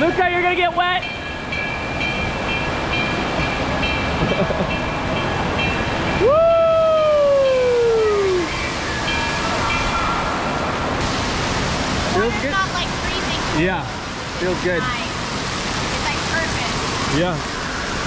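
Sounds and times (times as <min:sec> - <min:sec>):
rushing and splashing water: 0:00.0 - 0:18.0.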